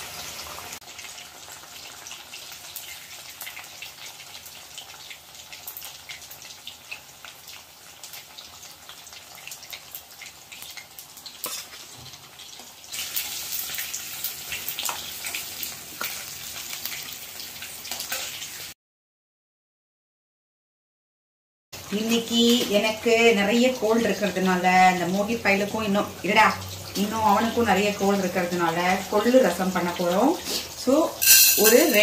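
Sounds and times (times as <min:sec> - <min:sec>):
fish deep-frying in hot oil: 0:00.0 - 0:18.8, 0:21.8 - 0:32.0.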